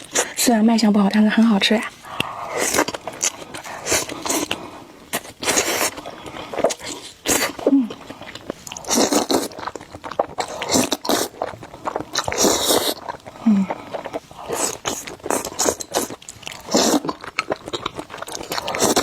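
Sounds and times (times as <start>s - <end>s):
chewing: 2.0s - 19.0s
slurping noodles: 2.2s - 19.0s.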